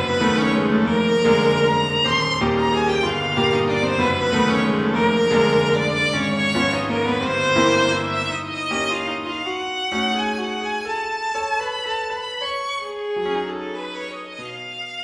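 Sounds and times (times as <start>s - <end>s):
slow instrumental melody: 0.0s - 15.0s.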